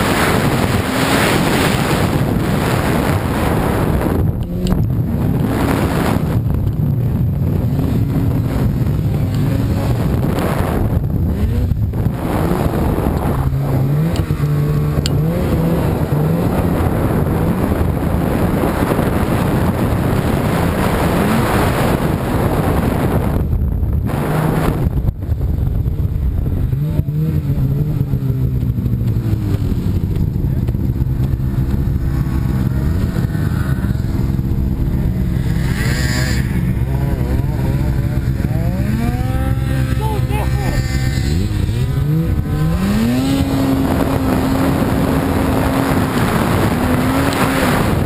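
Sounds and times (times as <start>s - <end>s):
snowmobile engine revving: 0.0s - 48.0s
wind buffeting microphone: 0.0s - 48.0s.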